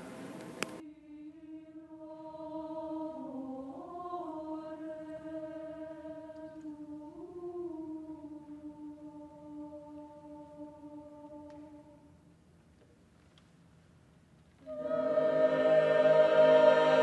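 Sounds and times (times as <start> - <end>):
choir singing sustained notes: 0.8 - 12.2, 14.6 - 17.0.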